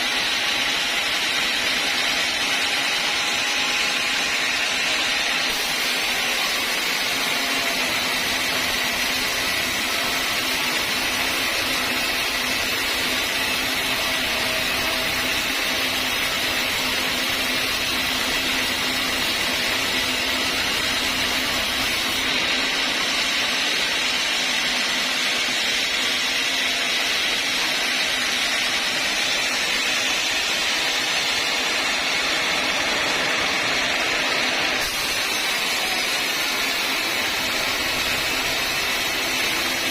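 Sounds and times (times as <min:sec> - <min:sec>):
sawmill saw whirring: 0:00.0 - 0:39.9.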